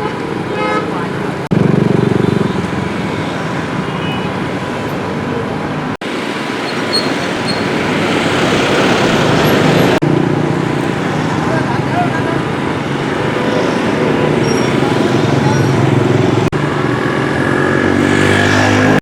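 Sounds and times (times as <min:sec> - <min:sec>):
engines humming: 0:00.0 - 0:19.0
rushing noise: 0:01.2 - 0:19.0.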